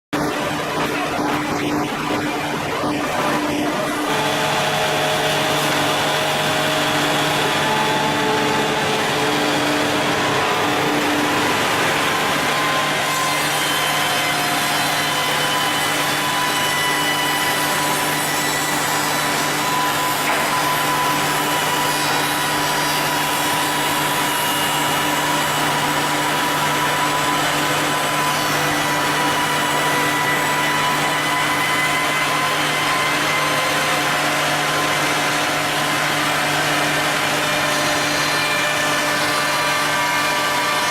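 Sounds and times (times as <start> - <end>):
steady machine whine: 0.1 - 40.9
woodworking machine cutting wood: 0.1 - 40.9.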